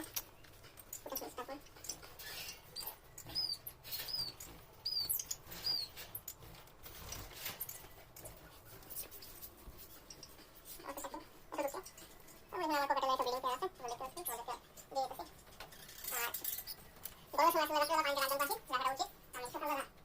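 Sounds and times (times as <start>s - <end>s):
birds chirping: 0.0s - 20.0s
birds rustling in cages: 0.0s - 20.0s.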